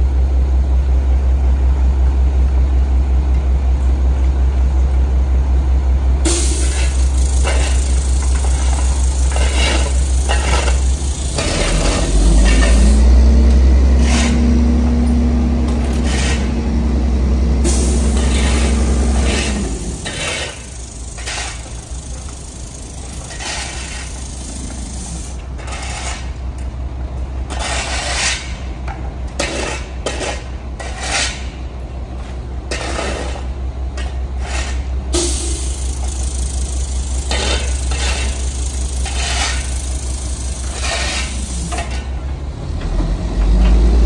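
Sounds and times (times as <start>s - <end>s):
diesel truck engine: 0.0s - 27.7s, 33.4s - 44.0s
shovel and broom scraping pavement: 6.2s - 26.6s, 27.4s - 42.3s.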